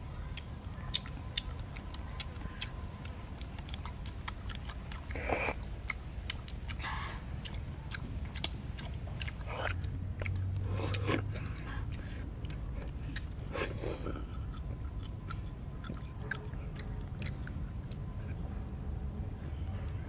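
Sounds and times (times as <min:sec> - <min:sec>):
chewing: 0:00.2 - 0:18.8.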